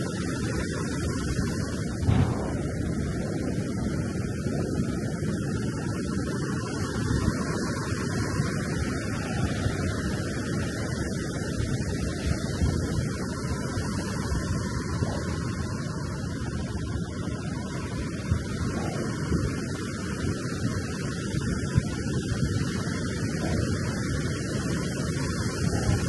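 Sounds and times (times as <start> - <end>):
ocean surf washing onto beach: 0.0 - 26.0.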